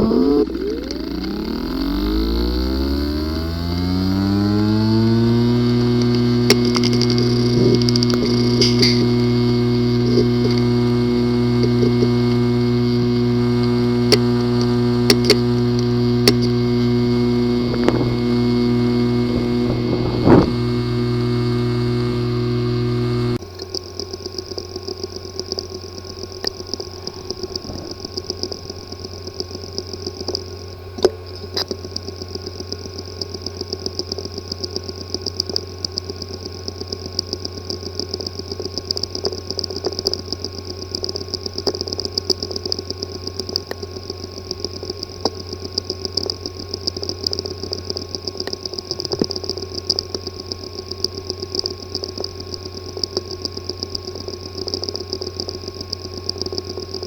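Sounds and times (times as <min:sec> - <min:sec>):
damaged hard drive humming and clicking: 0:00.0 - 0:57.0.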